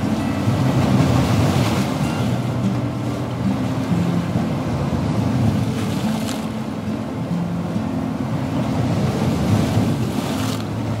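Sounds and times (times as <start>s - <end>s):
rushing surf-like wash: 0.0s - 11.0s
slow relaxation music: 0.0s - 11.0s.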